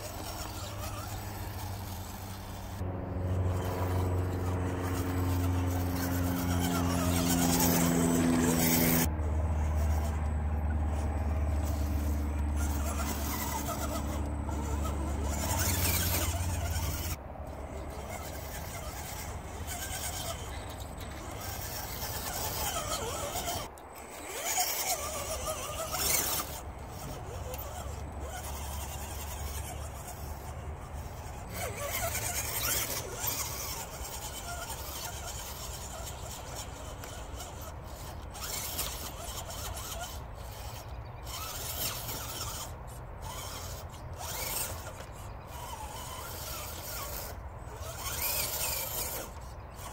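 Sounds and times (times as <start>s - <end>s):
electric motor and gears whining: 0.0s - 49.9s.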